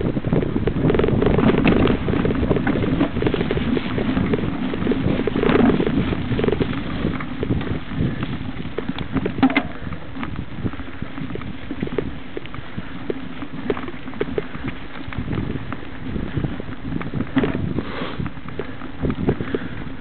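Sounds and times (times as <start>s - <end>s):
bike rattling over bumps: 0.0s - 20.0s
bike tyres on dirt trail: 0.0s - 20.0s
wind buffeting microphone: 0.0s - 20.0s.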